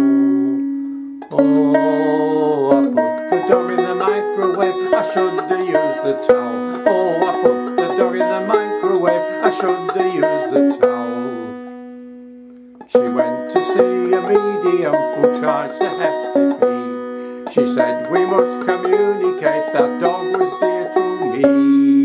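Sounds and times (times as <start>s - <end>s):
banjo playing: 0.0s - 22.0s.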